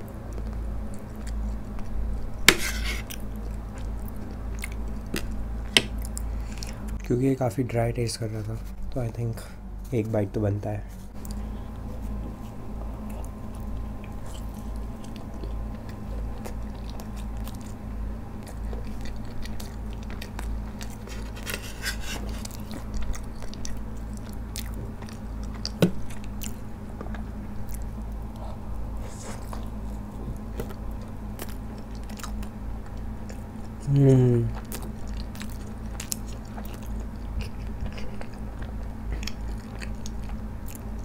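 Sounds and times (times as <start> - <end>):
chewing pizza: 0.0 - 7.2, 10.9 - 41.0
steady low hum: 0.0 - 41.0.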